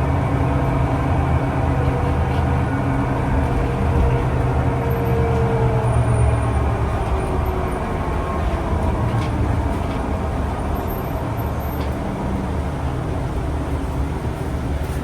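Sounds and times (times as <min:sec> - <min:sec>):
bus rumbling in motion: 0:00.0 - 0:15.0.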